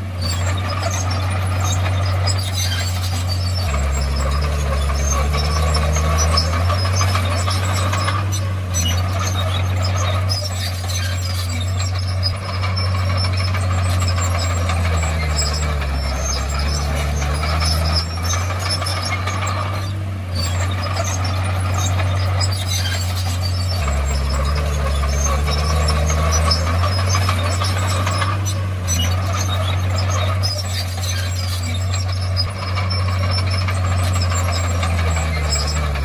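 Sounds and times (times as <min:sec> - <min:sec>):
bulldozer diesel engine running: 0:00.0 - 0:36.0
tracks squealing and clattering: 0:00.0 - 0:36.0.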